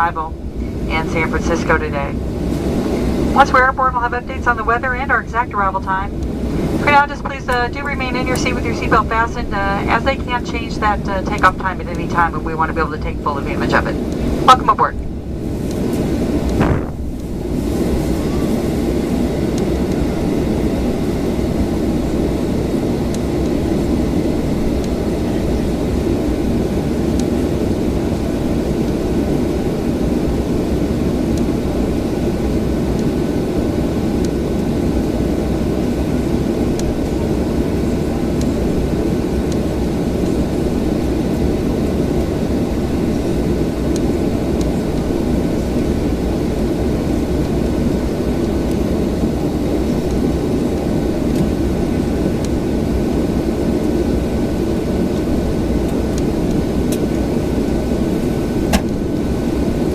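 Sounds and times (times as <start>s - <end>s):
airplane cabin rumble and hum: 0.0s - 59.9s.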